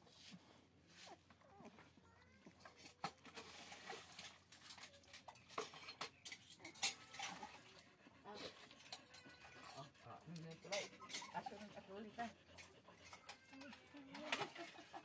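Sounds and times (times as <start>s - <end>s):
rustling of fur and paws: 0.0s - 15.0s.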